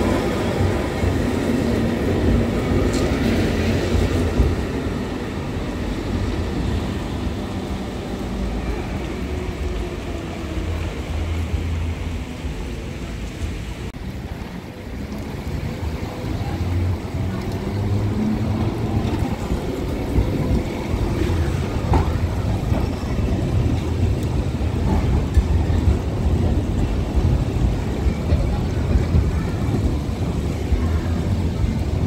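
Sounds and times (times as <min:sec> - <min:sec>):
tram wheels rumbling on rail: 0:00.0 - 0:32.0.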